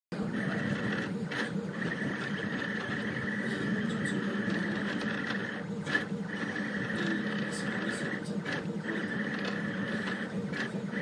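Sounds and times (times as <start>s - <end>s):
stepper motors whining: 0.2s - 11.0s.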